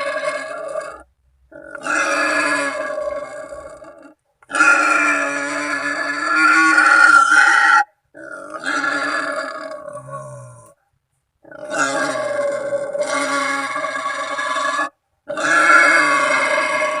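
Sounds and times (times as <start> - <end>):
wild boar calls: 0.0 - 10.8, 11.4 - 17.0.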